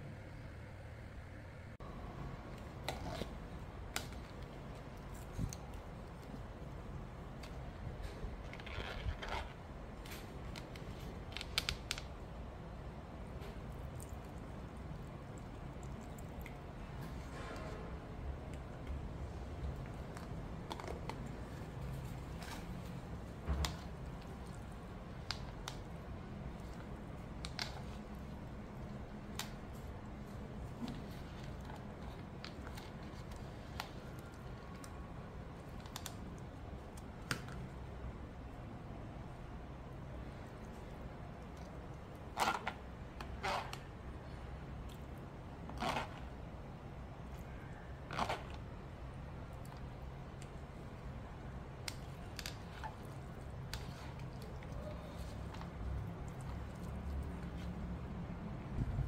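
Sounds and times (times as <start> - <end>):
steady low hum: 0.0 - 59.0
food squishing: 2.4 - 58.5.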